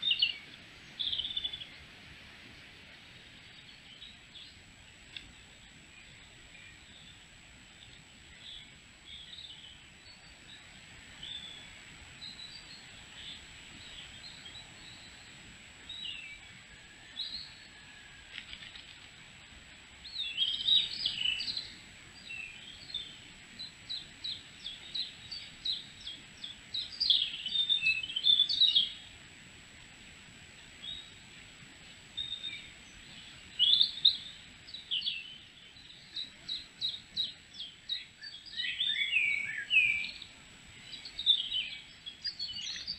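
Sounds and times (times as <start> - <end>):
songbirds singing and calling: 0.0 - 42.9.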